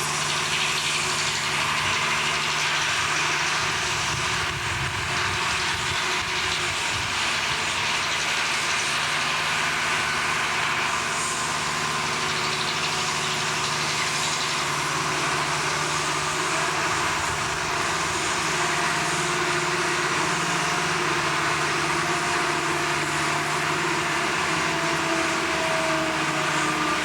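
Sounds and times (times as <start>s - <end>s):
heavy machinery engine drone: 0.0s - 27.0s.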